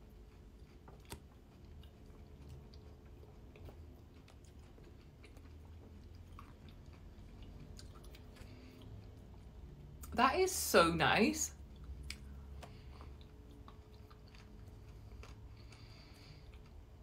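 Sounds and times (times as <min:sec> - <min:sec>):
close-up chewing: 0:00.0 - 0:10.1, 0:11.6 - 0:17.0
faint steady hum: 0:00.0 - 0:17.0.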